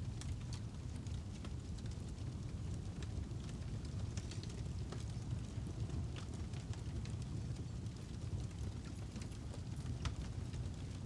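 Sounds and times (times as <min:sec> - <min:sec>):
fire rumbling and crackling: 0:00.0 - 0:11.0.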